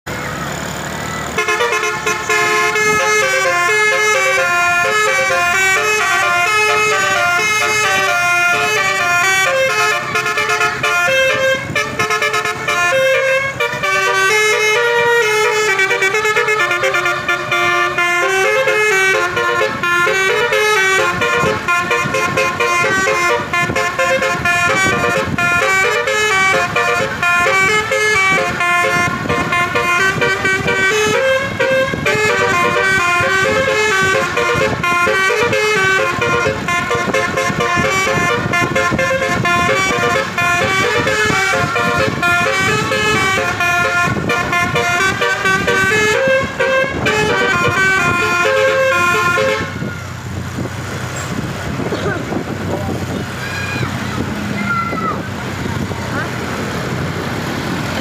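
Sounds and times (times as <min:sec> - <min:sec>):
musical bus horn tune: 0:01.0 - 0:50.7.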